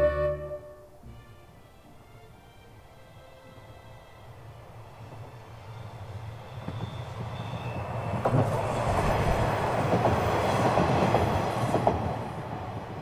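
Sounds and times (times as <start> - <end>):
diesel railcar passing: 0.0 - 13.0.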